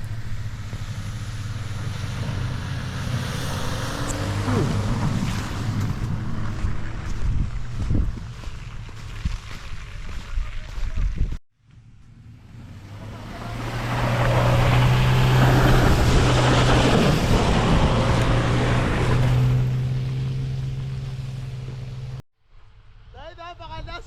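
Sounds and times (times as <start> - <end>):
vehicle engine hum: 0.0 - 22.2
road noise: 0.0 - 23.2.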